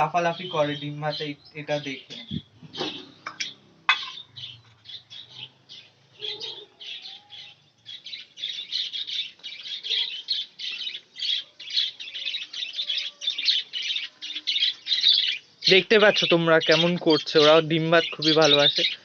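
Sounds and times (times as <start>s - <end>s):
budgerigars chattering and squawking: 0.0s - 19.0s.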